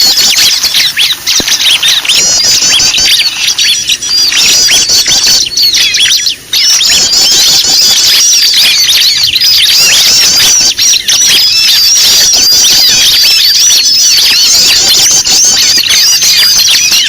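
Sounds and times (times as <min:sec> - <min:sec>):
chorus of small birds chirping: 0:00.0 - 0:17.0.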